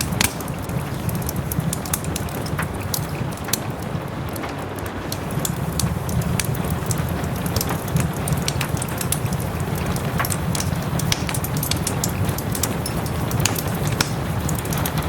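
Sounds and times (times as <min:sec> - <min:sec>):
soft rain: 0:00.0 - 0:15.0
wood fire crackling and popping: 0:00.0 - 0:15.0.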